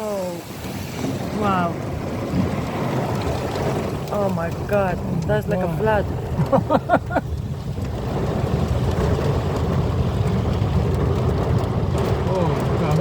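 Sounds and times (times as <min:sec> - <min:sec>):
floodwater rushing: 0:00.0 - 0:13.0
wind buffeting microphone: 0:00.0 - 0:13.0.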